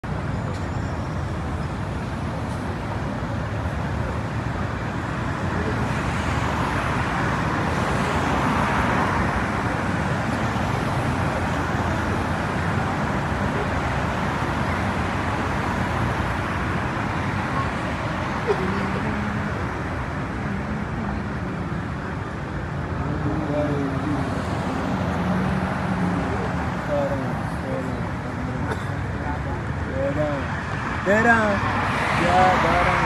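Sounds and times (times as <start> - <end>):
road traffic passing: 0.0 - 33.0.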